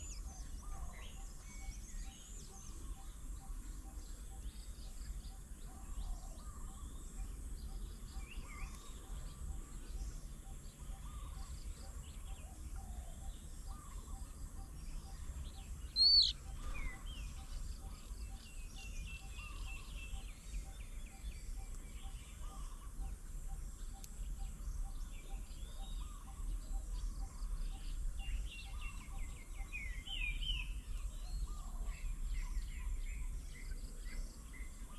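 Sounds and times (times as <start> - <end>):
wild birds calling and chirping: 0.0 - 34.9.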